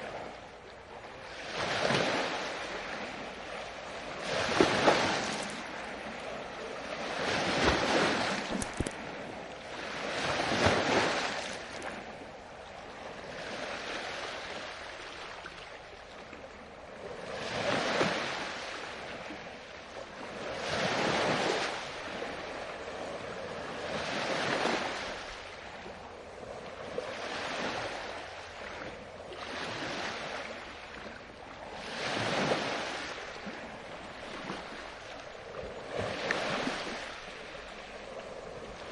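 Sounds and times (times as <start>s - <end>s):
ocean waves washing in: 0.0s - 38.9s.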